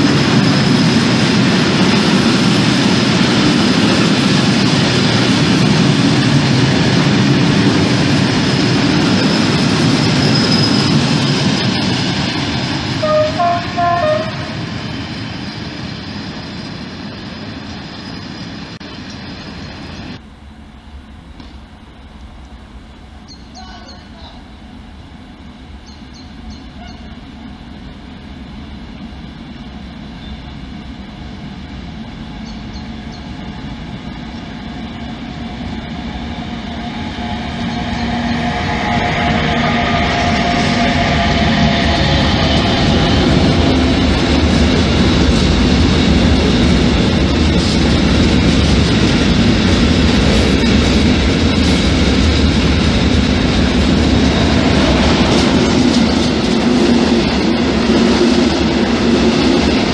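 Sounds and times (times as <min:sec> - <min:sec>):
wheels clickety-clack on rails: 0:00.0 - 0:20.2, 0:25.7 - 0:59.9
freight train rumbling: 0:00.0 - 0:59.9
locomotive high whine: 0:00.0 - 0:59.9.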